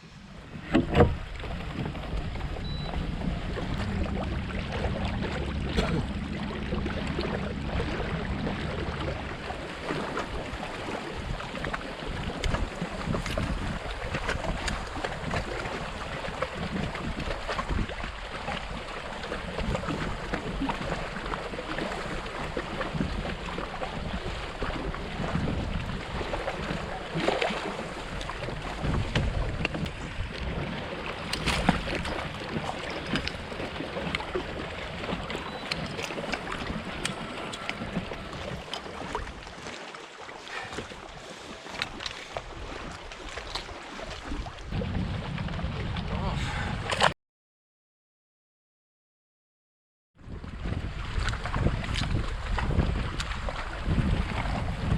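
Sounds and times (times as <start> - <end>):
wind buffeting microphone: 0.0 - 39.7, 40.4 - 47.1, 50.2 - 54.9
water lapping against kayak: 0.0 - 47.1, 50.2 - 54.9.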